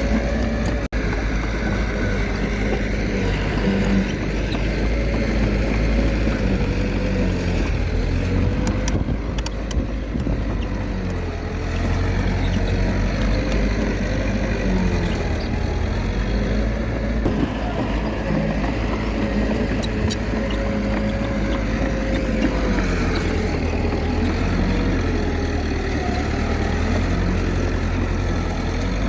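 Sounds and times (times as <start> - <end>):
bulldozer diesel engine under load: 0.0 - 29.0.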